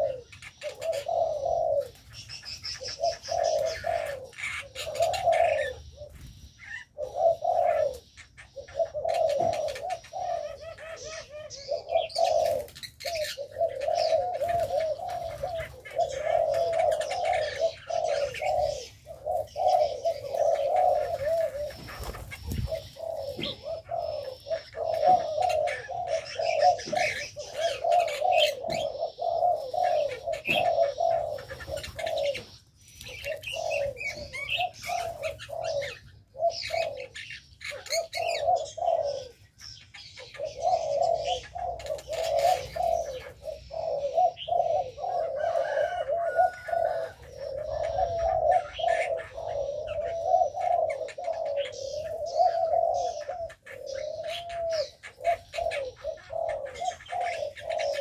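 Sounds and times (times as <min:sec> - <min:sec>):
doves cooing: 0:00.0 - 0:58.0
small birds chirping: 0:00.0 - 0:58.0.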